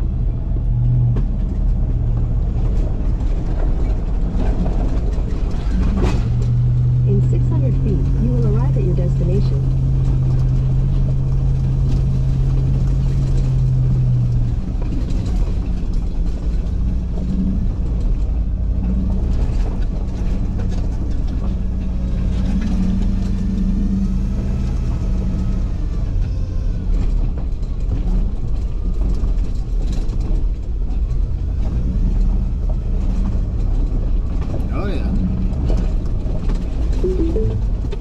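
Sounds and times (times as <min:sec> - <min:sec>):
truck engine and tyre rumble: 0:00.0 - 0:38.0.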